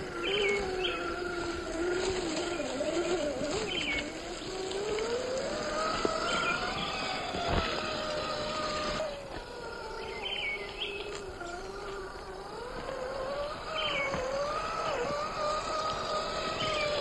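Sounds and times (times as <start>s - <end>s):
birds chirping: 0.0s - 17.0s
electric motor whining: 0.0s - 17.0s.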